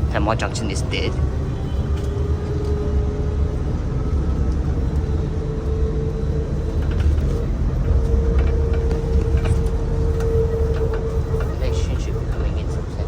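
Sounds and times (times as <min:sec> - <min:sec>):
tyres rumbling on guideway: 0:00.0 - 0:13.0
motor whine: 0:01.2 - 0:12.9.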